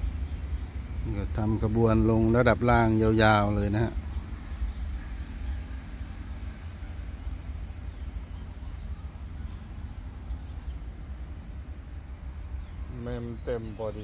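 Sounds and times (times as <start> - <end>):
freight train wagons rumbling: 0.0 - 14.0.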